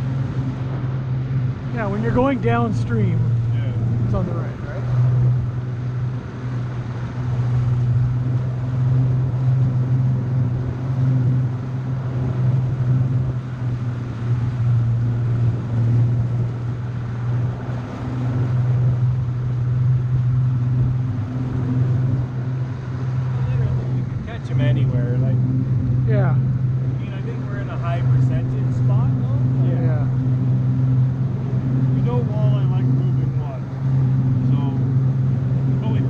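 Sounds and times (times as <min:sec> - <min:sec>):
outboard motor droning: 0:00.0 - 0:36.0
rush of water and wind: 0:00.0 - 0:36.0.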